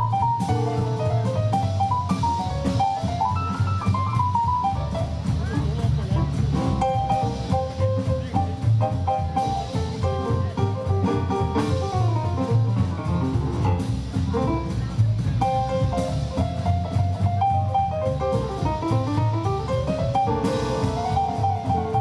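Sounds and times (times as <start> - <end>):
drum kit: 0.0 - 22.0
piano quick runs: 0.0 - 22.0
upright double bass: 0.0 - 22.0.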